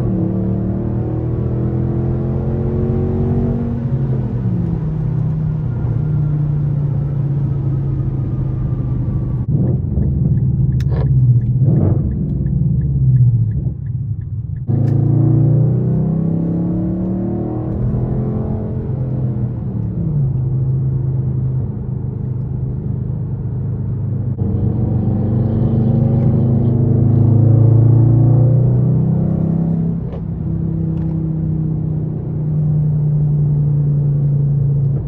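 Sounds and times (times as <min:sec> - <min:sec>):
car exhaust while driving: 0:00.0 - 0:35.0.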